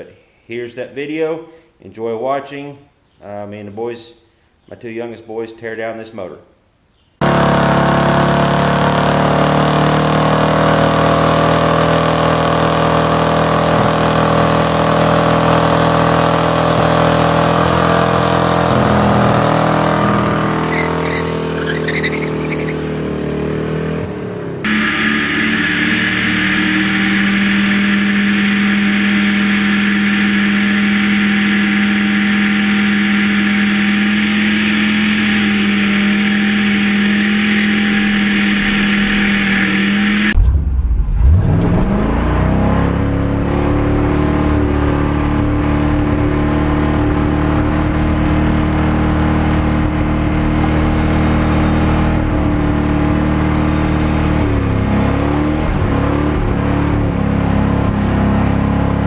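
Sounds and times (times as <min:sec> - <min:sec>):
car engine revving high: 0:07.2 - 0:59.0.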